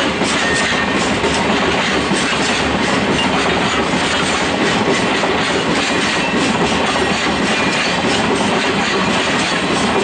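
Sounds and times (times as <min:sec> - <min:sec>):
freight train rumbling past: 0:00.0 - 0:10.0
wheels clattering on rails: 0:00.0 - 0:10.0.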